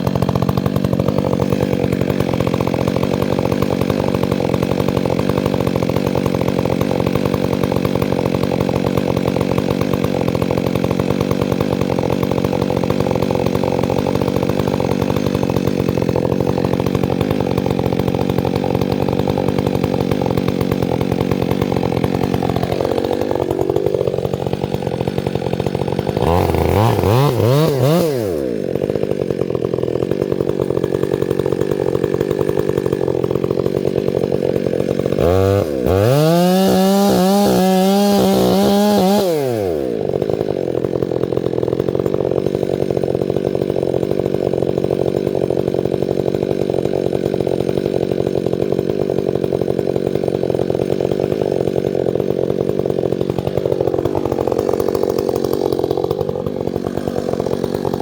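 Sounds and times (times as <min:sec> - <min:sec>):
chainsaw engine running: 0:00.0 - 0:58.0.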